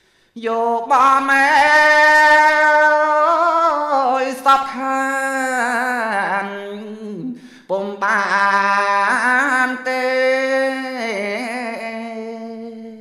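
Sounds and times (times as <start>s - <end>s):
man chanting unaccompanied: 0.4s - 13.0s.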